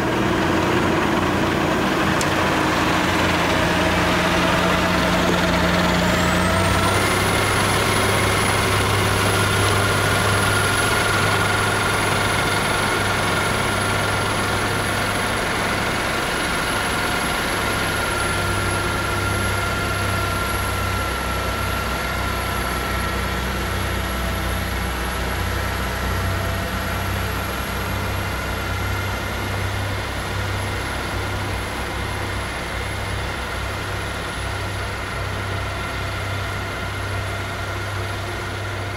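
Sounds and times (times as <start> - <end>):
snow-clearing machine running: 0.0 - 38.9.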